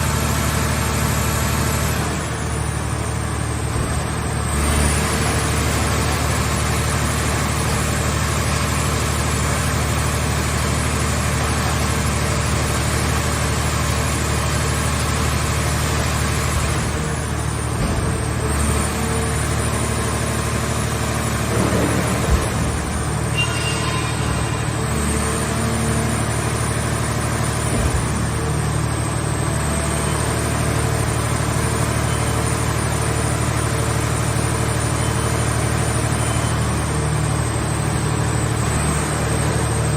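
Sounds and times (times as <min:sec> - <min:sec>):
hydraulic baler engine running: 0:00.0 - 0:39.9.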